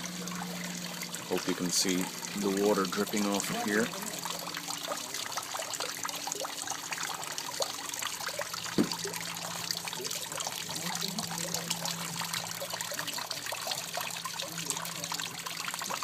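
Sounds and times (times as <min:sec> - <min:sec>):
water dripping into a pool: 0:00.0 - 0:16.0.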